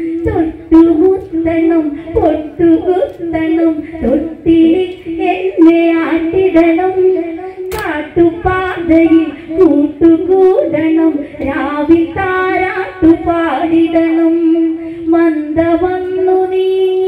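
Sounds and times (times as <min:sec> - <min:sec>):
women singing: 0:00.0 - 0:17.0.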